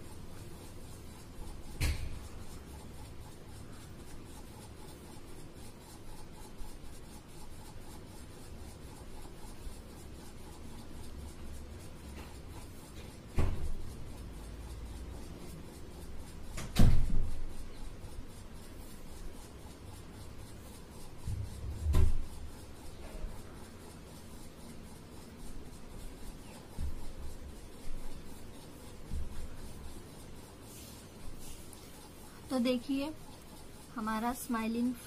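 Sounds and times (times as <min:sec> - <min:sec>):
pen scratching on paper: 0:00.0 - 0:35.0.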